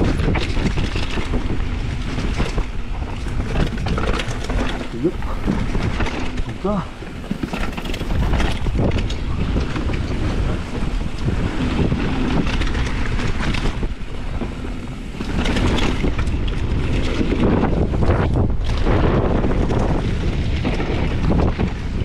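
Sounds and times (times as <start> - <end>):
bike rattling and knocking: 0.0 - 22.0
tyres rumbling over dirt: 0.0 - 22.0
wind buffeting microphone: 0.0 - 22.0.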